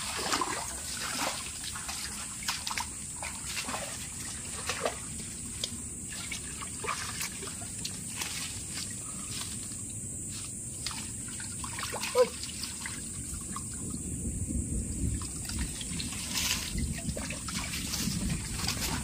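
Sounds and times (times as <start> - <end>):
splashes and drips in water: 0.0 - 14.0, 15.0 - 19.0
stream water trickling: 0.0 - 19.0.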